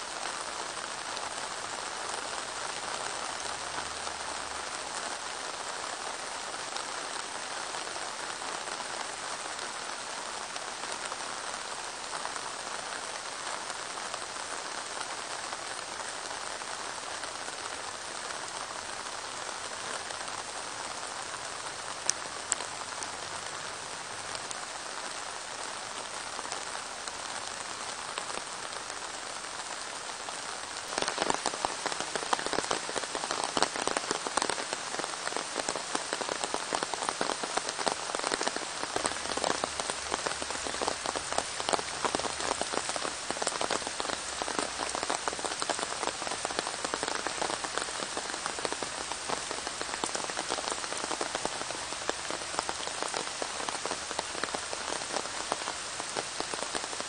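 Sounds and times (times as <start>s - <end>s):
raindrops splashing in puddles: 0.0s - 57.0s
steady rain hiss: 0.0s - 57.0s.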